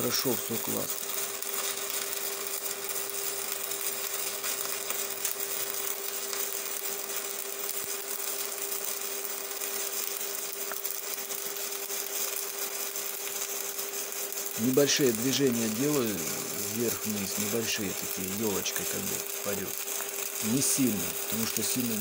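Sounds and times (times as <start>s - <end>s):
welder hum: 0.0s - 22.0s
welding arc hissing and crackling: 0.0s - 22.0s.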